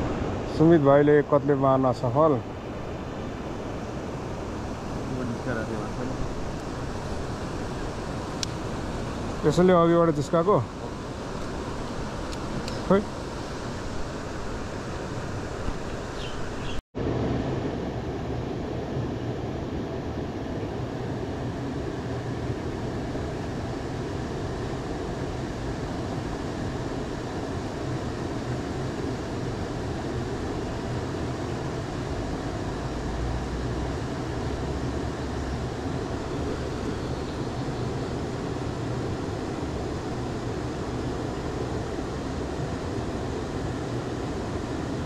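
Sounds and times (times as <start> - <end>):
river rushing: 0.0 - 16.8, 20.9 - 45.0.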